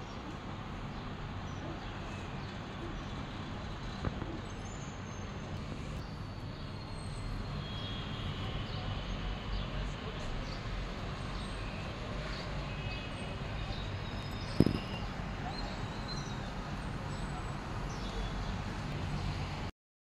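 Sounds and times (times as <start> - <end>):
distant city traffic rumble: 0.0 - 19.7.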